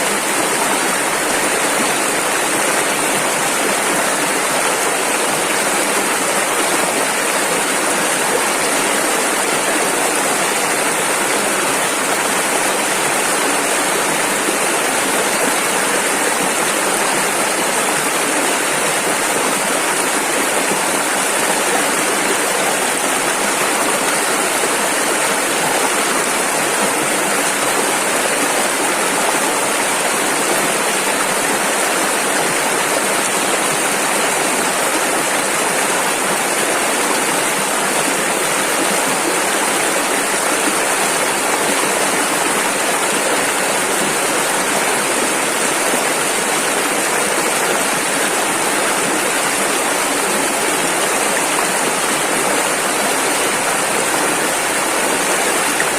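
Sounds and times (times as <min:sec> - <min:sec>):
rushing river water: 0:00.0 - 0:55.9.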